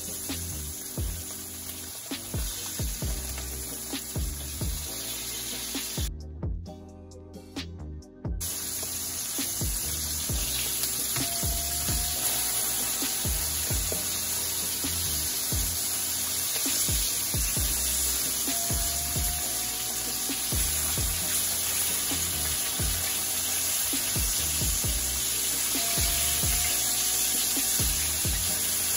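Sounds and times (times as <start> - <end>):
fish sizzling in oil: 0.0 - 6.1, 8.4 - 28.9
background music with steady beat: 0.0 - 28.9.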